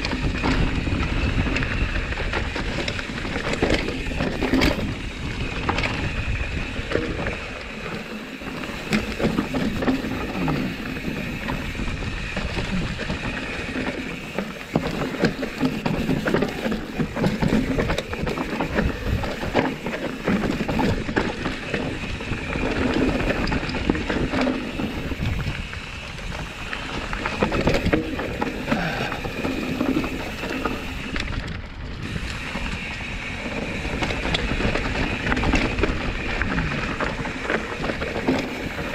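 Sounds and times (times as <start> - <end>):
bike rattling over bumps: 0.0 - 38.9
bike tyres on dirt trail: 0.0 - 38.9
wind on microphone: 0.0 - 38.9.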